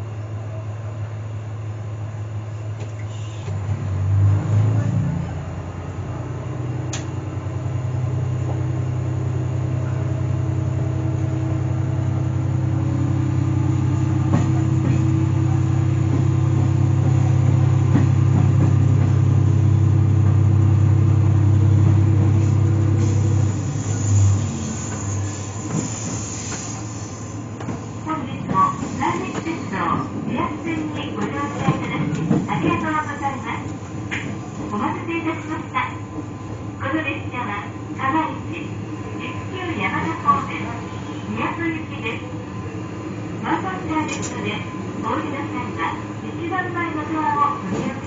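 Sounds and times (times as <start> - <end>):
diesel railcar droning: 0.0 - 48.0.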